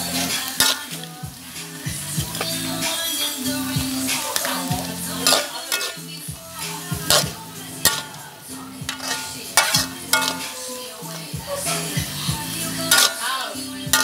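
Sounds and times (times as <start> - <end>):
light sizzle: 0.0 - 14.0
metal spatula scraping a wok: 0.0 - 14.0.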